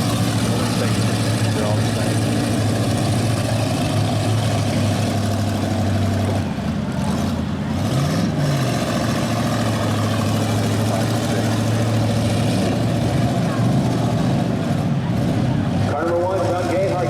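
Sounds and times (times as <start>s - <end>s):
car engine revving: 0.0s - 17.0s
car engines running: 0.0s - 17.0s.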